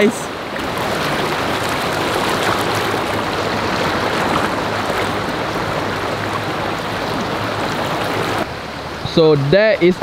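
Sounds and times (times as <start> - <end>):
river rushing over stones: 0.0 - 10.0.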